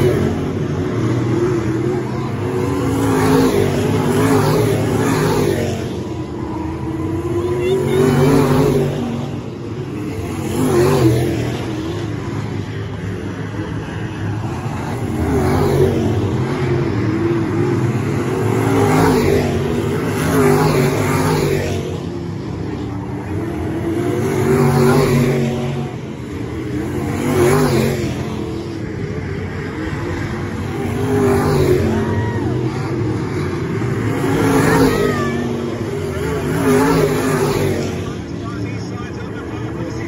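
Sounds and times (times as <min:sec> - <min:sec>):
race car engines passing: 0:00.0 - 0:40.0.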